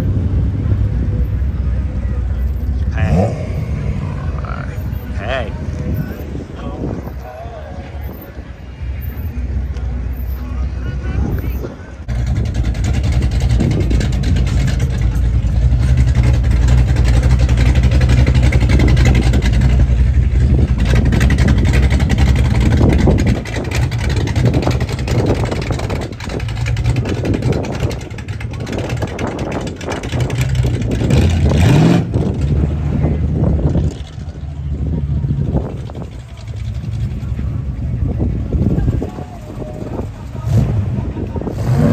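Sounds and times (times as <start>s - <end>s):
car engine revving: 0.0s - 7.1s, 12.1s - 41.9s
car engine running: 0.0s - 10.6s, 11.9s - 41.9s.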